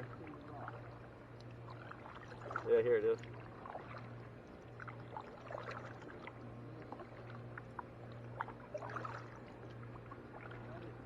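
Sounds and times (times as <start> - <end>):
steady low hum: 0.0 - 11.0
water drips and light splashes: 0.0 - 11.0.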